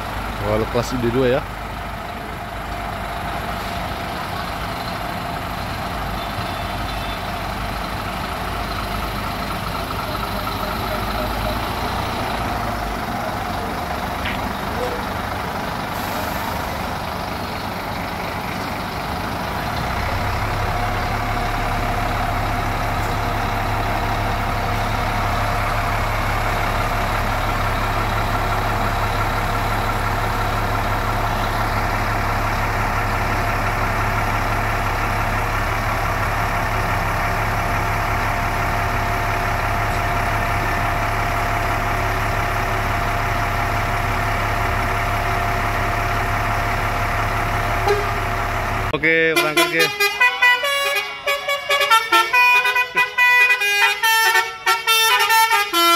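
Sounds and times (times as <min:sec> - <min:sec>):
diesel engine idling: 0:00.0 - 0:55.9.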